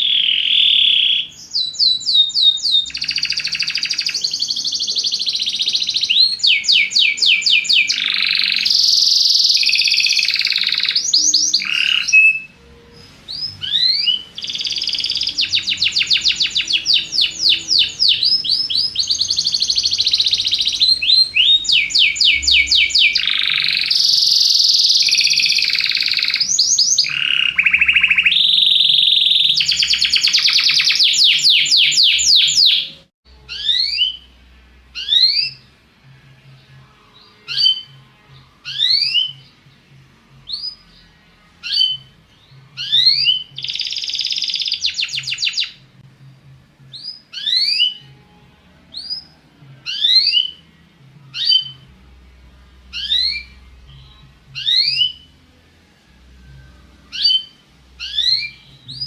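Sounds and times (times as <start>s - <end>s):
canary chirps: 0.0s - 35.8s, 36.5s - 46.0s, 46.9s - 52.1s, 52.8s - 55.4s, 56.3s - 59.0s
canary singing trills: 0.0s - 46.0s, 46.9s - 55.4s, 56.2s - 59.0s.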